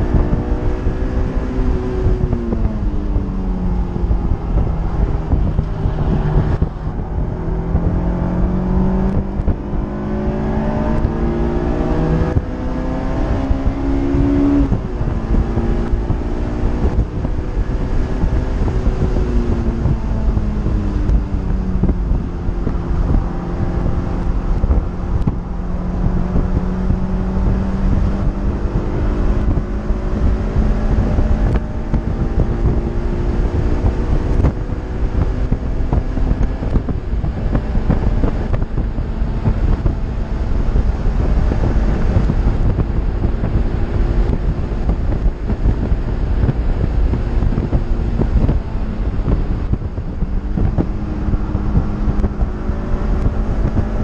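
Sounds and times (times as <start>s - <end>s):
car engine at speed: 0.0s - 54.0s
wind buffeting microphone: 0.0s - 54.0s.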